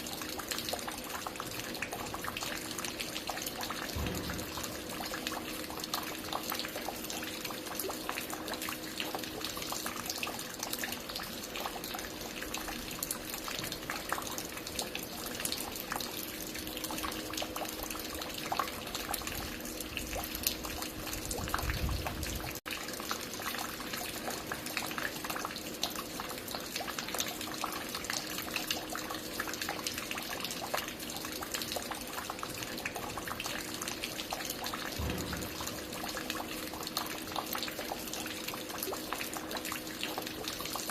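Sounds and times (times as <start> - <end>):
water dripping and splashing: 0.0 - 40.9.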